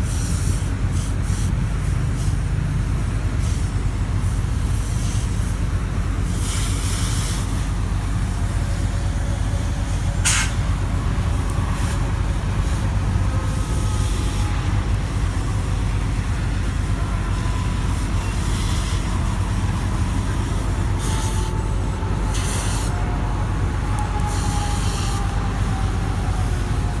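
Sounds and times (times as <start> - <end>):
fire engines running: 0.0 - 27.0
highway traffic rumble: 0.0 - 27.0
short hissing surges: 3.3 - 27.0.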